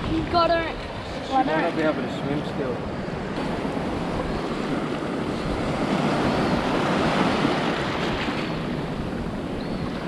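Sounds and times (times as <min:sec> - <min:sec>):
surf waves washing over sand: 0:00.0 - 0:10.0
wind buffeting microphone: 0:00.0 - 0:10.0.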